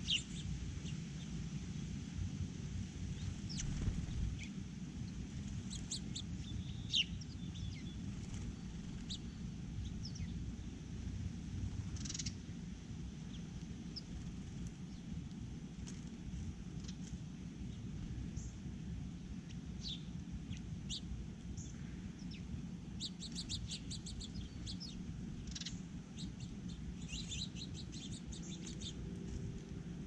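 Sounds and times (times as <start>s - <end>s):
small birds chirping: 0.0s - 1.9s, 3.0s - 29.8s.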